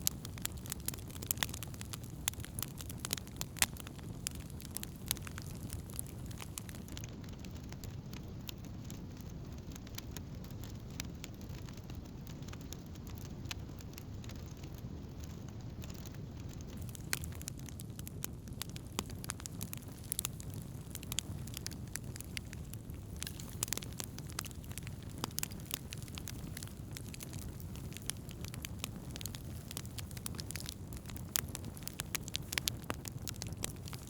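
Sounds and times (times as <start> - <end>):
campfire crackling and popping: 0.0 - 34.0
fire low rumble: 0.0 - 34.0.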